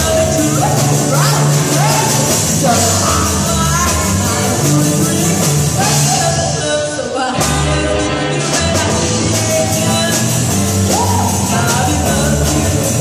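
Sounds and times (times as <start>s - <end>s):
rock and roll song with singer: 0.0s - 13.0s.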